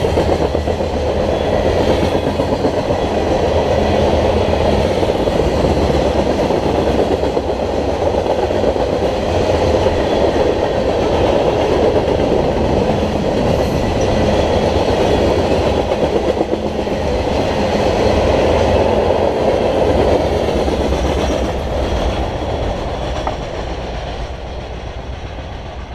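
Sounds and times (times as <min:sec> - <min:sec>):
train wheels rumbling and clacking: 0:00.0 - 0:25.9.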